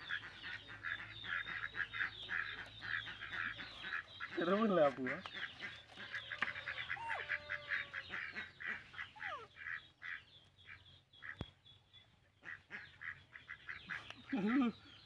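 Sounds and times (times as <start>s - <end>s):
birds harsh calls: 0.0s - 15.0s.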